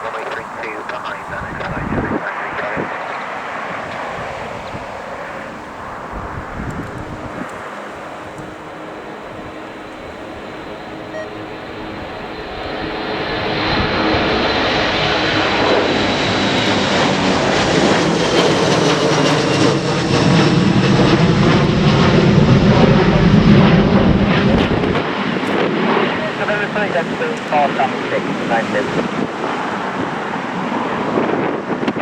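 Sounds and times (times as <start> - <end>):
high jet engine whine: 0.0 - 32.0
jet engines roaring: 0.0 - 32.0.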